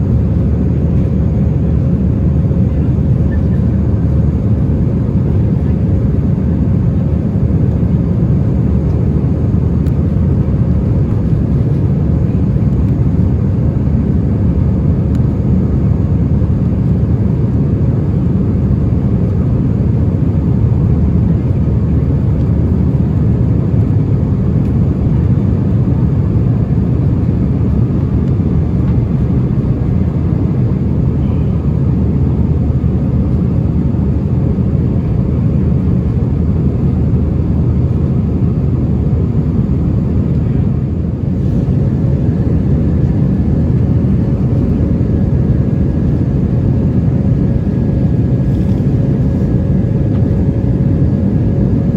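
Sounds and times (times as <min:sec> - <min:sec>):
airliner cabin rumble: 0:00.0 - 0:51.9
faint steady hum: 0:00.0 - 0:51.9.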